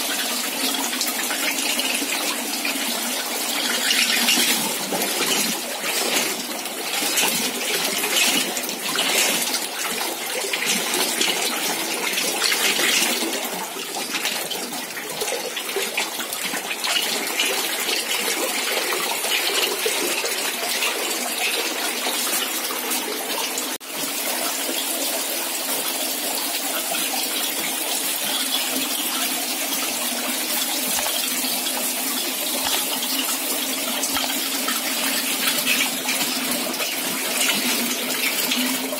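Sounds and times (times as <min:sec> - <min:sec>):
water pouring into a trough: 0:00.0 - 0:38.9.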